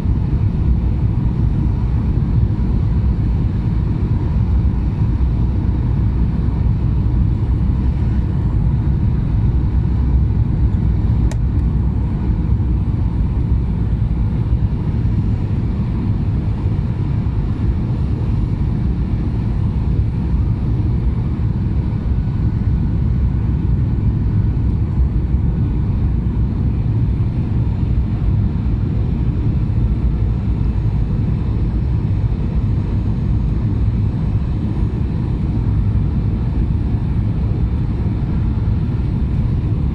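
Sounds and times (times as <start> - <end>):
airliner cabin engine roar: 0.0 - 39.9
faint steady whine: 0.0 - 39.9.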